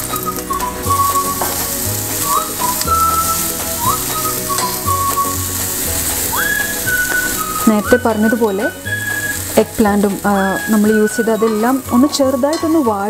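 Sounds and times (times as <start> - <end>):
background music with whistled melody: 0.0 - 13.0
eggplant sizzling in hot oil: 0.0 - 13.0
spatula turning food in pan: 0.0 - 13.0.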